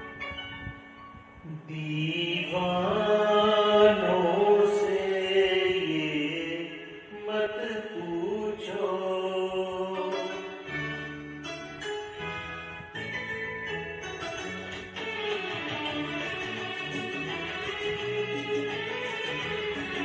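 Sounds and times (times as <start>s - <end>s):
quiet music backing: 0.0s - 20.0s.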